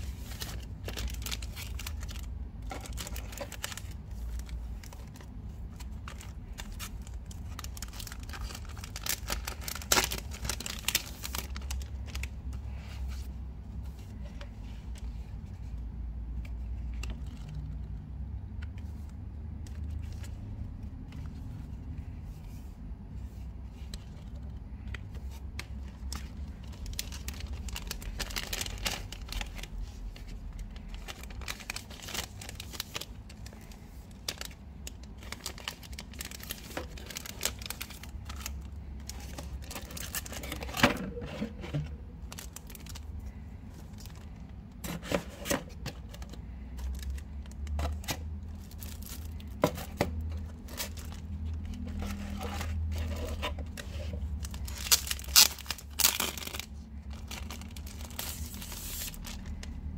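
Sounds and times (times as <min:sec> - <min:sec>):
plastic shrink-wrap crinkling and tearing: 0:00.0 - 0:13.2, 0:16.4 - 0:22.2, 0:23.2 - 0:41.2, 0:42.1 - 0:59.9.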